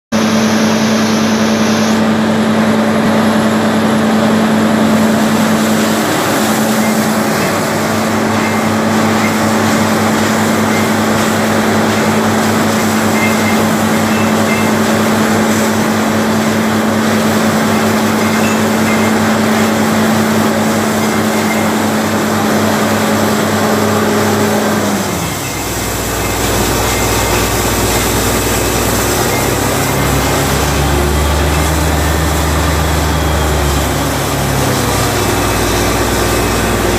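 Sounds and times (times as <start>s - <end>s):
drilling rig engine running: 0.1s - 36.9s.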